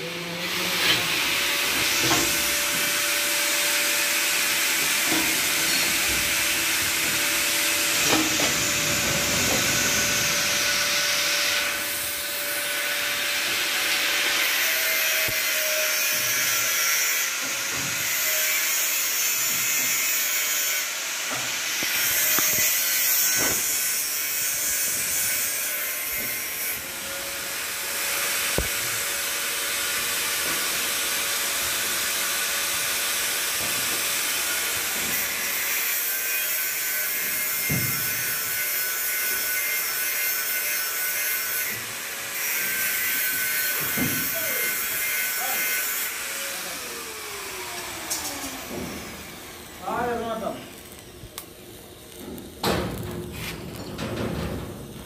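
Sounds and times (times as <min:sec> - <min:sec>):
welding equipment hiss and whine: 0:00.0 - 0:55.0.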